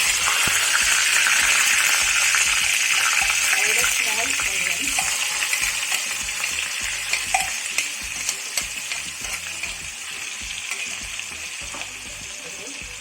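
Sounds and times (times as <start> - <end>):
onions sizzling in hot oil: 0.0 - 13.0
utensil clicking in pan: 0.1 - 12.0.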